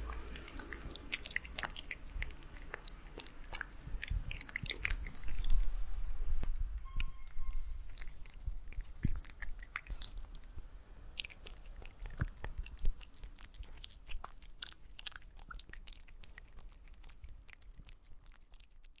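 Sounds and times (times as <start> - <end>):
cat chewing clicks: 0.0 - 5.6, 7.9 - 10.5, 11.2 - 19.0.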